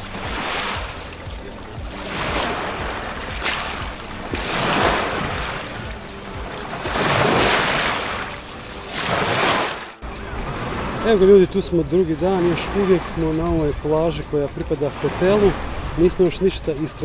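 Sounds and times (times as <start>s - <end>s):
music: 0.0s - 17.0s
waves washing onto shore: 0.0s - 17.0s.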